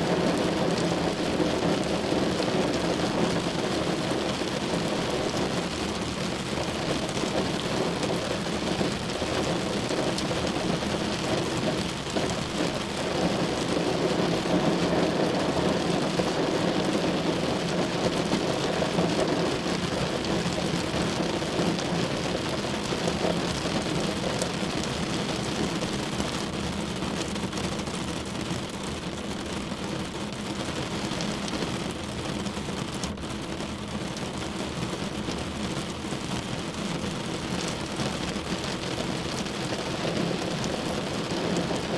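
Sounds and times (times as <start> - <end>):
heavy rain drumming on a car: 0.0 - 41.9.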